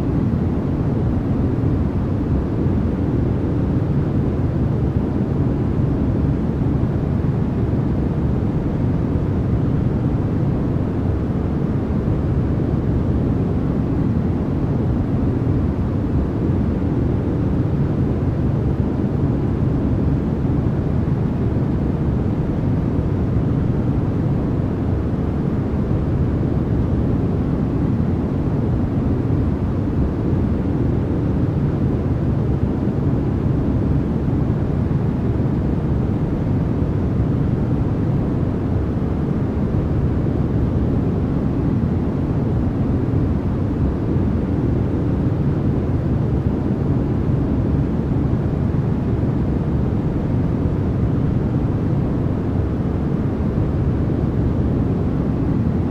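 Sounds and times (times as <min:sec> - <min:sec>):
low white noise rumble: 0:00.0 - 0:55.9.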